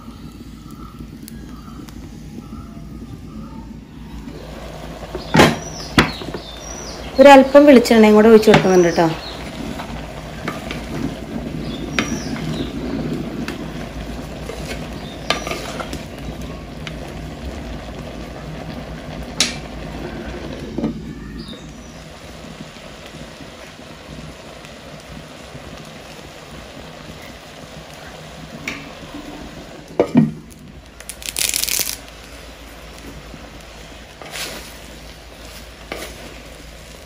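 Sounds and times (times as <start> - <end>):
pot sizzling and bubbling: 0.0 - 37.0.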